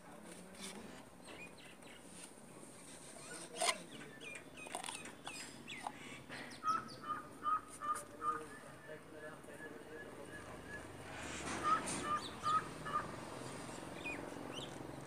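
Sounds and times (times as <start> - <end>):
birds chirping: 1.2 - 15.0.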